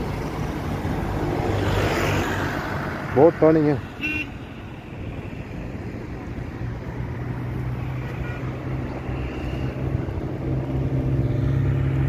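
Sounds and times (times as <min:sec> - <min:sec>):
passing vehicle engines humming: 0:00.0 - 0:12.0.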